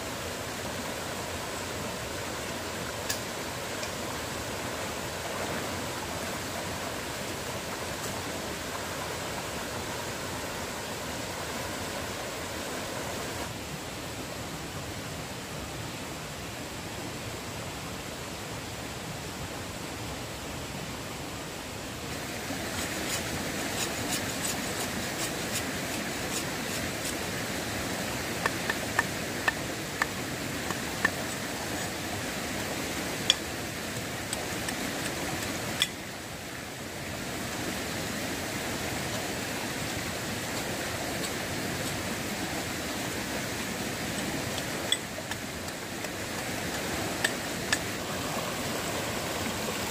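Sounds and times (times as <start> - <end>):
stream rushing: 0.0 - 49.9.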